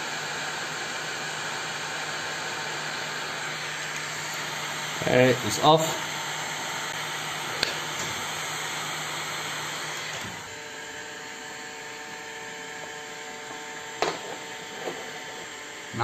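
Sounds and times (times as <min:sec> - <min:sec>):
heat gun blowing: 0:00.0 - 0:15.9.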